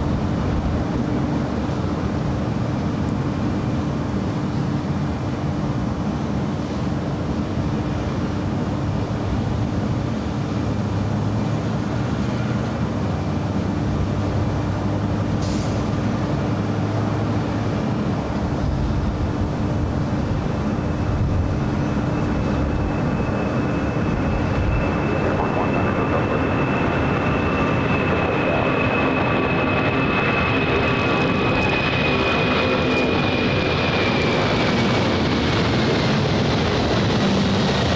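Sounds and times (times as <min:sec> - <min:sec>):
jet engines roaring at takeoff: 0:00.0 - 0:37.9.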